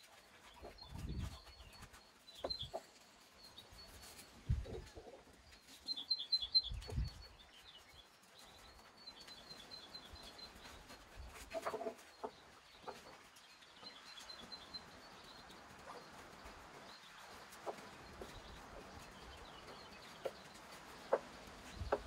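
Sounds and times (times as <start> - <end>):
small bird chirping: 0.1 - 22.0.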